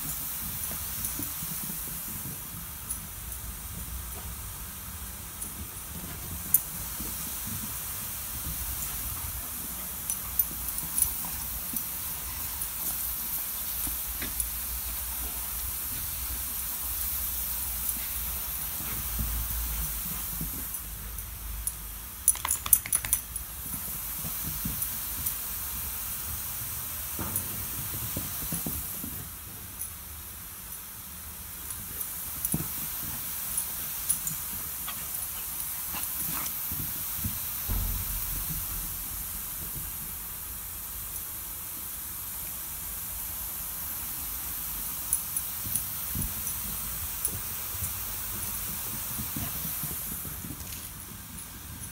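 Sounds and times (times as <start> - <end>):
garden sprinklers hissing: 0.0 - 51.9.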